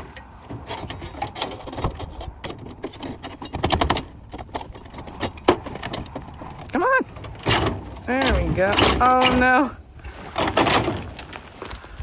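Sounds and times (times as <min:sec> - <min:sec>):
metal tools clattering and scraping: 0:00.0 - 0:11.6.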